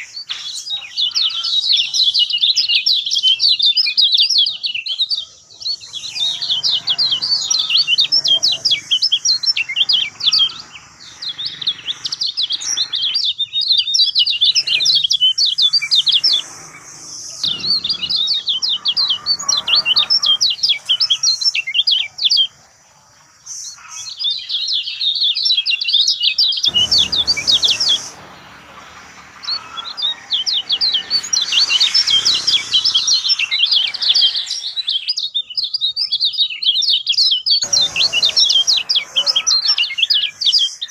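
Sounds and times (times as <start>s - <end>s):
songbird twittering: 0.0s - 40.9s.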